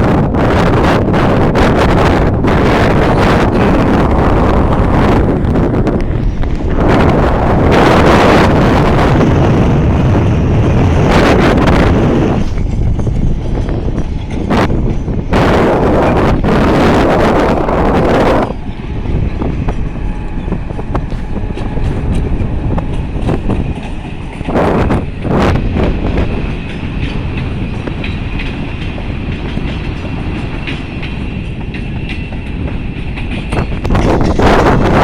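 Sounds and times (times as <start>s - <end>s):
train rumbling past: 0.0s - 35.0s
wind gusts on microphone: 0.0s - 35.0s
wheels clicking over rail joints: 6.0s - 34.9s.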